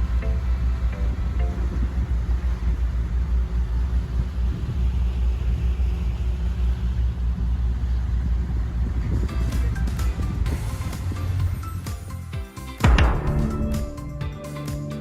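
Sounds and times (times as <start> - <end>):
vehicle rumbling in motion: 0.0 - 12.2, 12.9 - 15.0.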